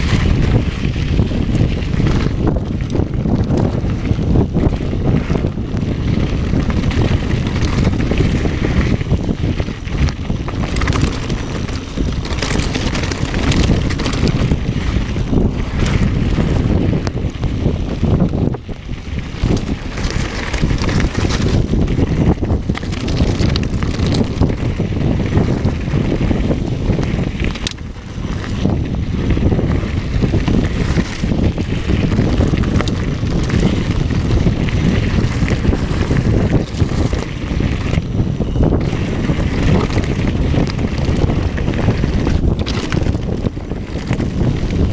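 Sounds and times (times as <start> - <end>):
bike rattling over rocks: 0.0 - 44.9
tyres rumbling on loose gravel: 0.0 - 44.9
wind buffeting microphone: 0.0 - 44.9.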